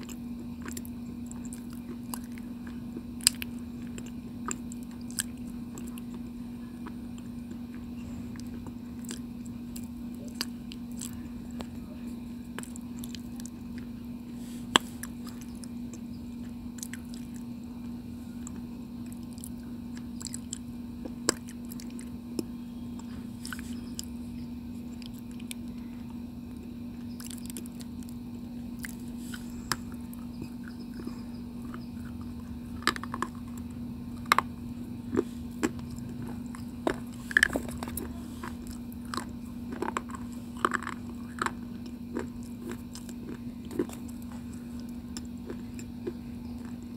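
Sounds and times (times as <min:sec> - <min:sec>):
chewing and crunching stone: 0:00.0 - 0:11.9, 0:12.5 - 0:24.2, 0:24.8 - 0:46.9
steady low hum: 0:00.0 - 0:46.9.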